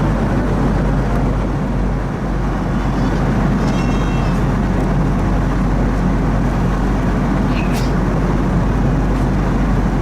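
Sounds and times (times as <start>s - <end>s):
airliner cabin engine rush: 0.0s - 10.0s.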